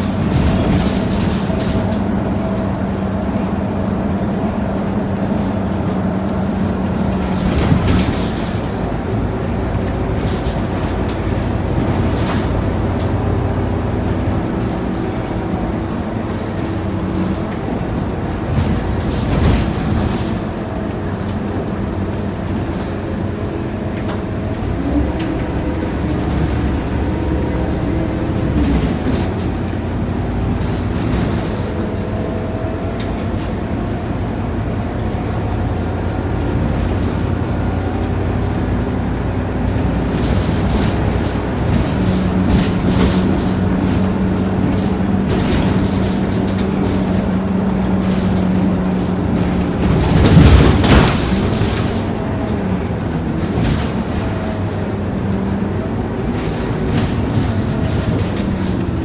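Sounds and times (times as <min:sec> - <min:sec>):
body rattles and clicks: 0:00.0 - 0:59.0
bus engine drone: 0:00.0 - 0:59.0.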